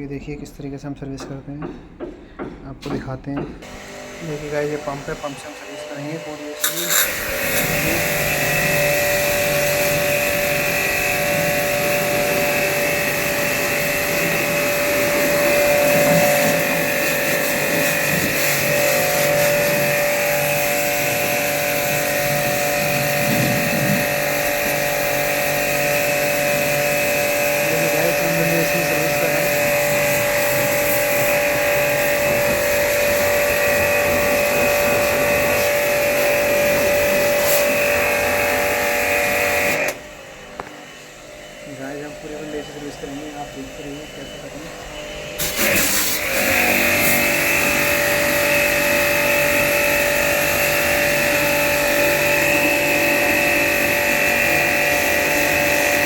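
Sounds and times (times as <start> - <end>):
electric pump whining: 3.6 - 56.0.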